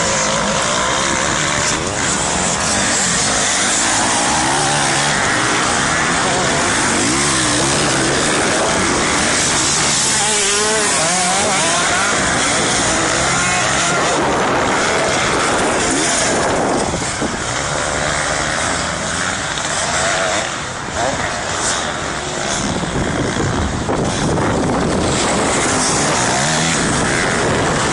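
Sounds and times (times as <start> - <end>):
dirt bike engines revving: 0.0 - 27.9.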